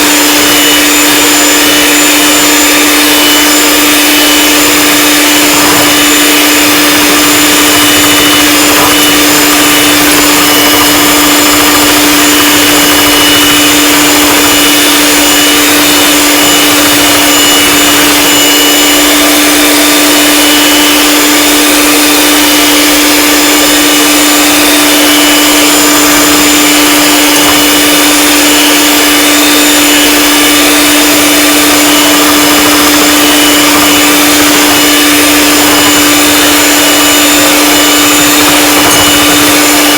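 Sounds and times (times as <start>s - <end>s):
electric mixer running: 0.0s - 39.9s.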